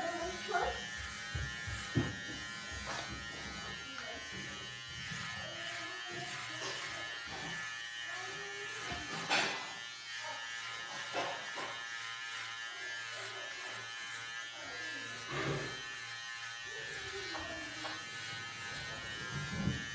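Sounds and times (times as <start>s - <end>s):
electric hair clipper buzzing: 0.0s - 19.9s.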